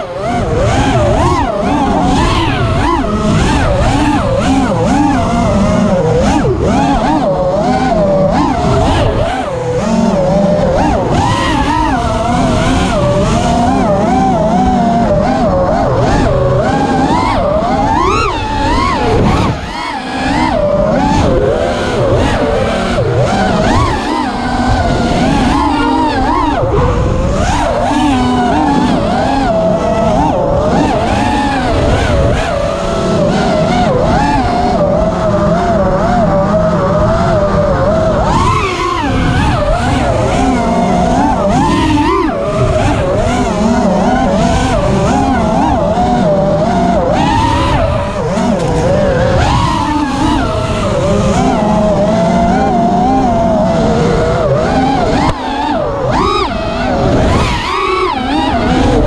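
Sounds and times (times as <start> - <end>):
quadcopter motors whining: 0.0 - 59.0.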